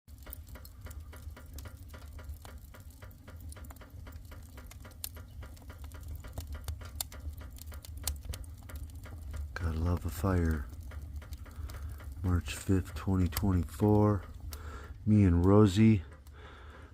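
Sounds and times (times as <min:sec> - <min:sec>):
sharp pops and snaps: 0:00.1 - 0:16.9
wood fire crackling: 0:00.1 - 0:16.9.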